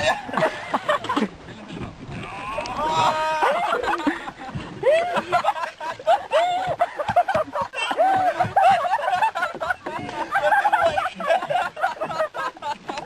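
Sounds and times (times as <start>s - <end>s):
people laughing: 0.0s - 1.6s, 2.7s - 13.0s.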